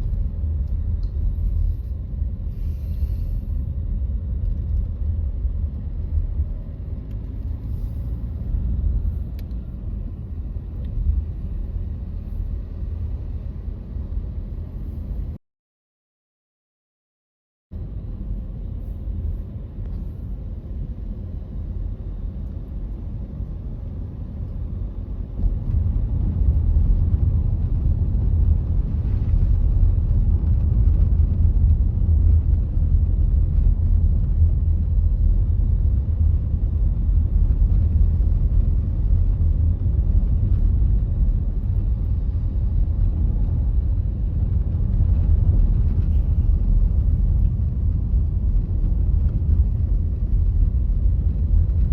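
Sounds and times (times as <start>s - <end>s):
car driving on snowy road: 0.0s - 15.4s, 17.8s - 51.9s.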